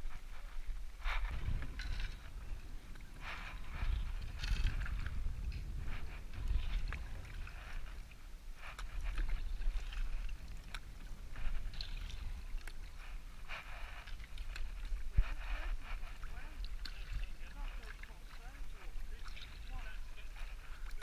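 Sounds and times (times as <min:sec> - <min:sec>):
low microphone rumble: 0:00.0 - 0:21.0
paddle splashing water: 0:00.0 - 0:21.0.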